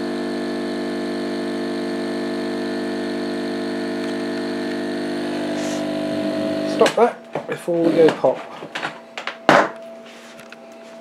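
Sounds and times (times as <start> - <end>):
air pump humming: 0.0 - 10.6.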